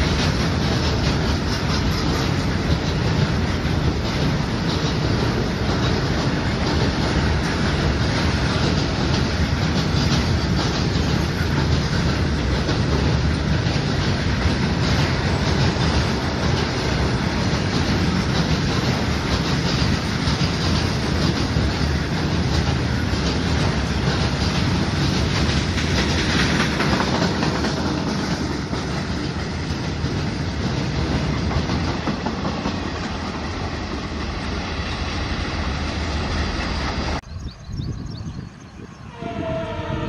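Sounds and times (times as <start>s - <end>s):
wheels clacking over rail joints: 0.0s - 37.3s
freight train rumbling past: 0.0s - 40.0s.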